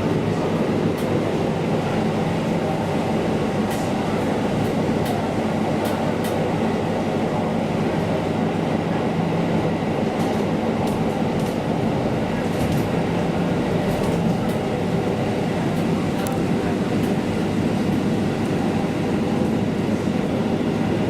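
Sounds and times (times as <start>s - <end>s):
diesel railcar engine drone: 0.0s - 21.0s.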